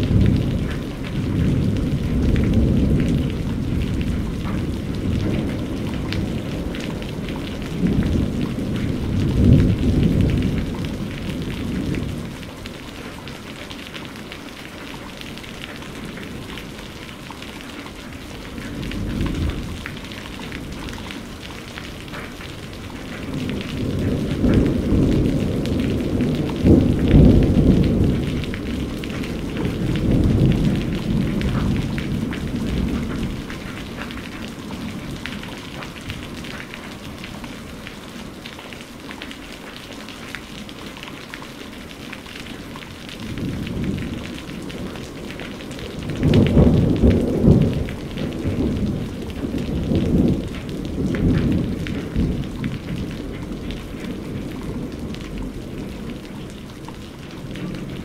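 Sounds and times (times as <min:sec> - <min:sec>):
thunder rumbling: 0:00.0 - 0:14.0, 0:18.2 - 0:38.4, 0:43.0 - 0:58.0
rain patter: 0:00.0 - 0:58.0.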